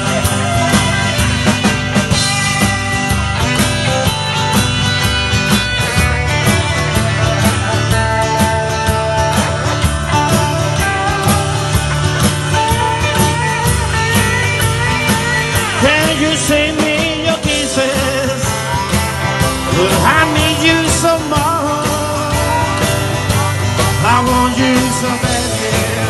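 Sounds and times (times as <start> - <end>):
rockabilly band playing: 0.0 - 26.0.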